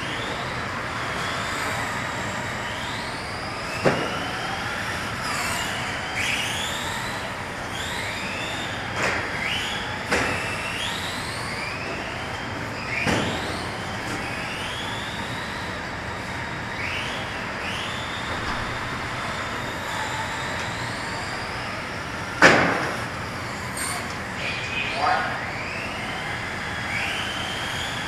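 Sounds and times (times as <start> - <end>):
electric rc car motors whining: 0.0 - 28.0.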